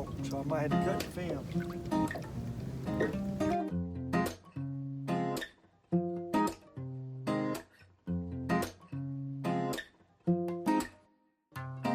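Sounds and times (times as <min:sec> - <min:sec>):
strummed acoustic guitar: 0:00.0 - 0:11.9.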